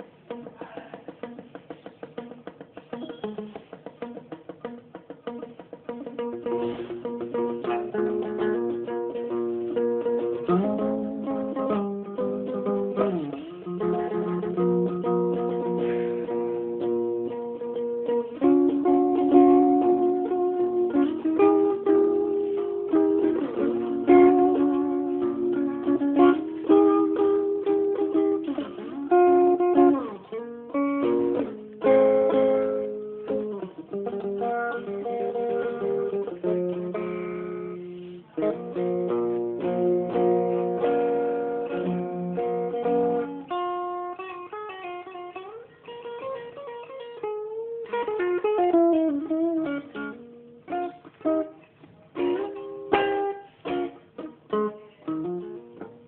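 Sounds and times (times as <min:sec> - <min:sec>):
plucked guitar music: 0:00.0 - 0:56.0.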